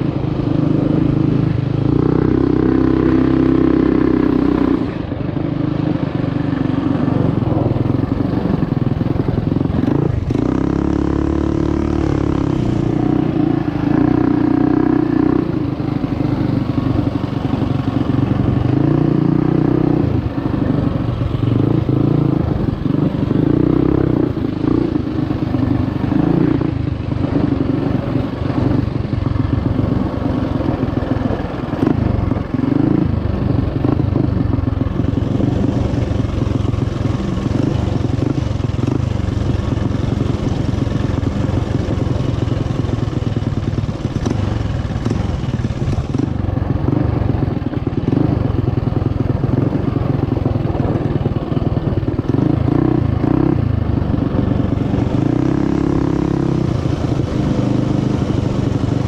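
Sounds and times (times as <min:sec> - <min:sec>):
mini bike engine running: 0:00.0 - 0:59.0
bike rattling on rough track: 0:06.4 - 0:59.0.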